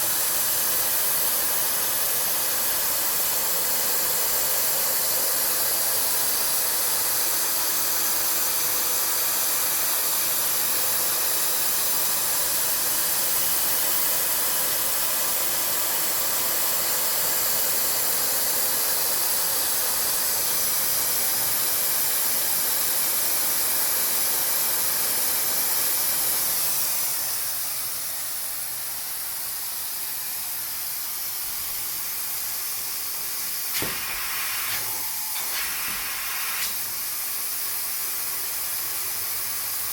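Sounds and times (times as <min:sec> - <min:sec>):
machine spraying hiss: 0:00.0 - 0:39.9.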